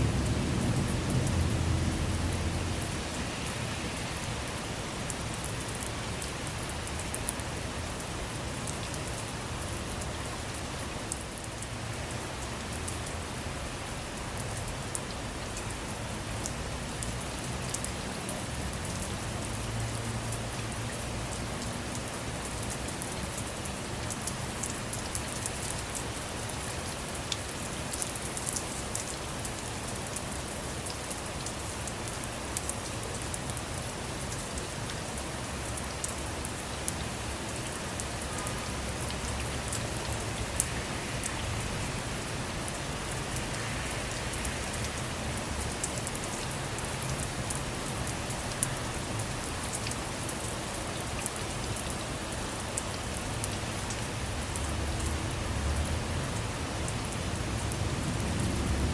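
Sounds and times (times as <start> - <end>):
rain falling on a vehicle: 0.0 - 58.9.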